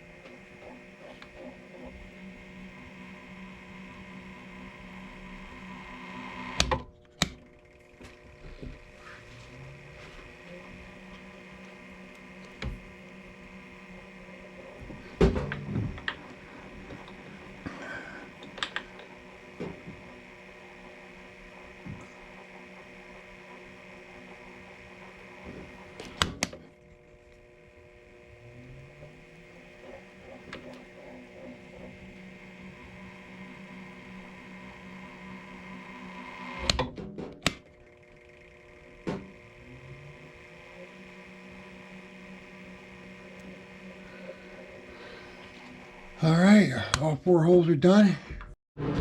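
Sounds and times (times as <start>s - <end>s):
spindle spinning up whine: 0.0s - 47.6s
milling machine spindle humming: 0.0s - 48.2s.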